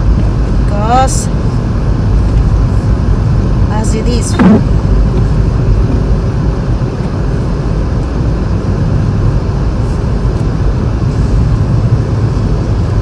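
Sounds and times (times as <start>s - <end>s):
low rumble of tyres and engine: 0.0s - 13.0s.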